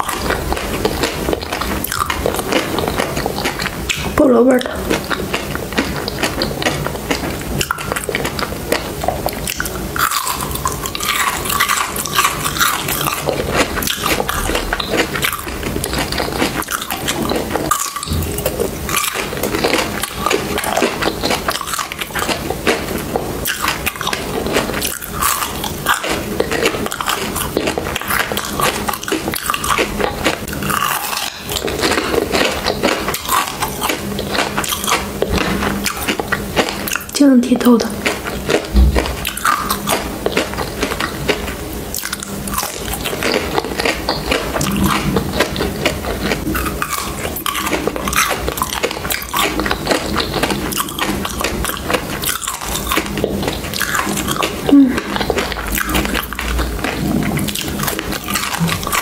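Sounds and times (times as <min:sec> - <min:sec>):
crunchy ice chewing: 0:00.0 - 0:59.0.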